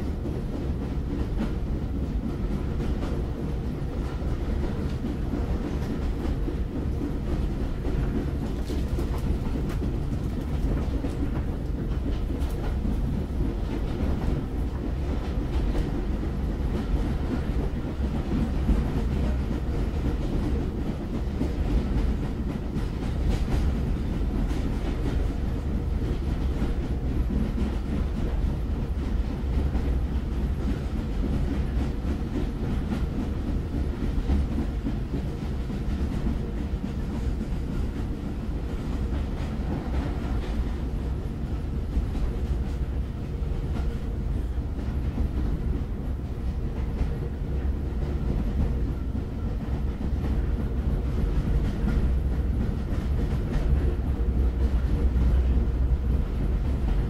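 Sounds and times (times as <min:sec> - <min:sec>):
train rumbling on track: 0:00.0 - 0:57.0.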